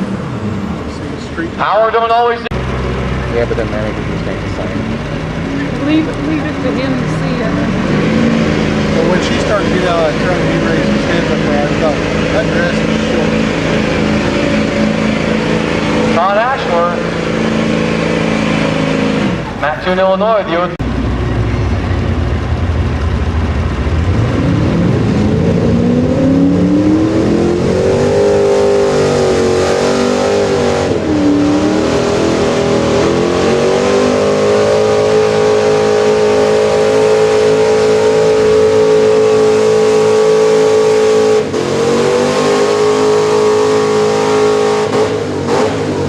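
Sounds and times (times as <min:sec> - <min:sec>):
pickup engine at full throttle: 0:00.0 - 0:46.0.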